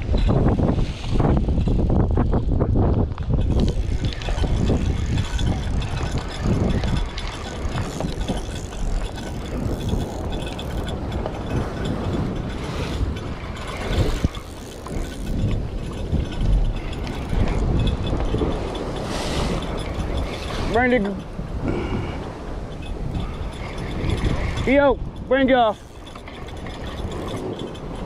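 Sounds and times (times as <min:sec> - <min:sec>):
waves washing against rocks: 0:00.0 - 0:28.0
wind buffeting microphone: 0:00.0 - 0:28.0
fishing reel gears whirring: 0:01.3 - 0:28.0.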